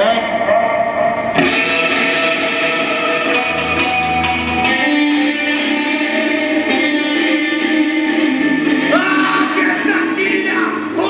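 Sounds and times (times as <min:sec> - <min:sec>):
guitar held chords: 0:00.0 - 0:11.0.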